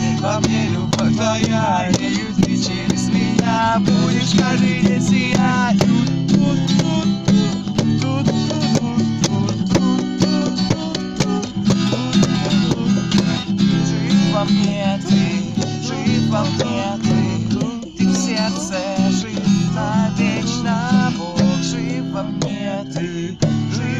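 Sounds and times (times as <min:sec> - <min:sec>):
acoustic guitar strumming: 0:00.0 - 0:23.9
people singing along: 0:00.0 - 0:23.9.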